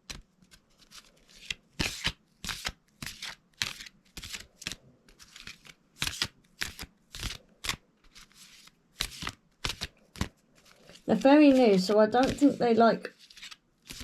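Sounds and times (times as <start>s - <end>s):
cards being shuffled by hand: 0.0s - 14.0s.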